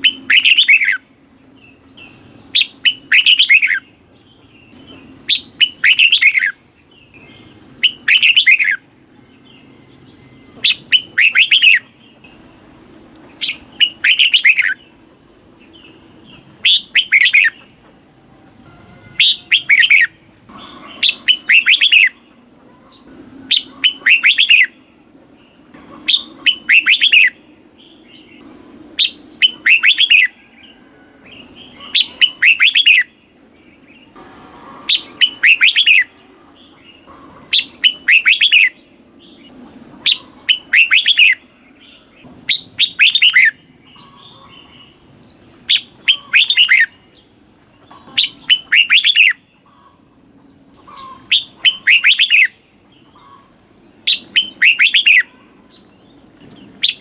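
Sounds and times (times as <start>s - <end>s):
bird singing whistled notes: 0.0s - 12.3s, 13.4s - 15.0s, 15.7s - 17.7s, 18.7s - 22.3s, 23.4s - 24.8s, 26.1s - 28.4s, 29.0s - 33.2s, 34.9s - 36.3s, 36.9s - 39.4s, 40.1s - 47.2s, 48.1s - 49.9s, 50.8s - 57.0s.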